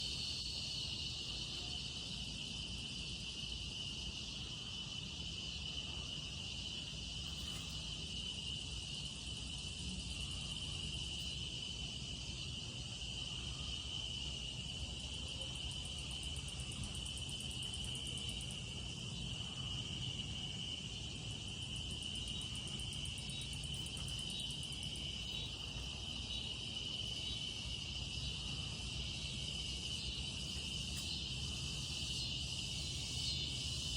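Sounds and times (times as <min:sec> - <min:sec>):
crickets and insects chirping: 0:00.0 - 0:33.9.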